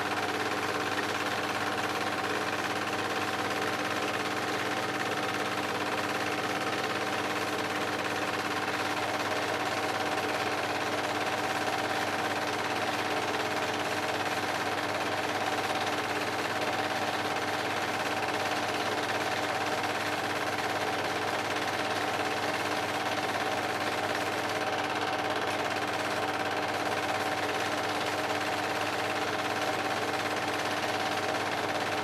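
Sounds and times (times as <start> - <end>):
film projector clattering: 0.0 - 32.0.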